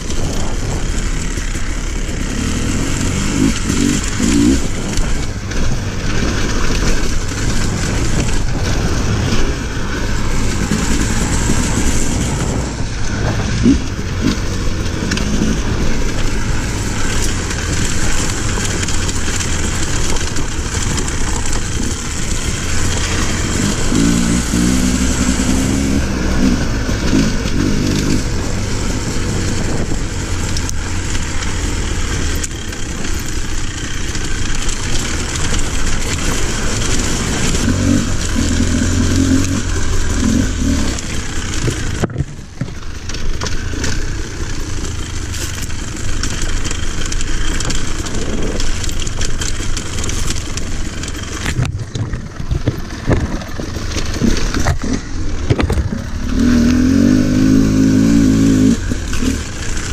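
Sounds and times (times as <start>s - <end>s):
motorcycle engine revving: 0.0s - 59.9s
steady noisy rush: 0.0s - 59.9s.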